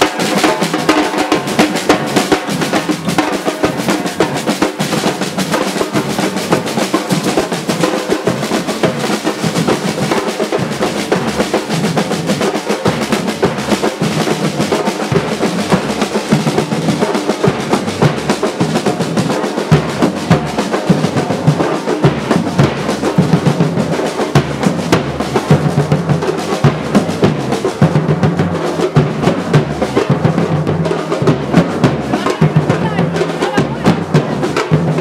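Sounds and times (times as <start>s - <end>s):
drums playing fast rhythm: 0.0s - 35.0s.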